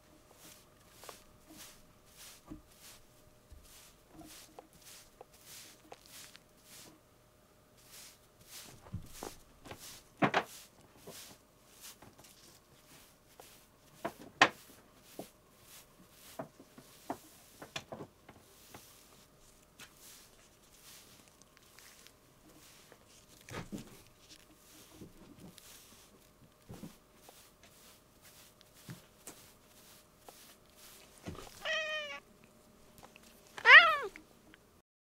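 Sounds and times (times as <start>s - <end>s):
soft taps and rustles: 0.3s - 7.0s, 8.4s - 31.8s.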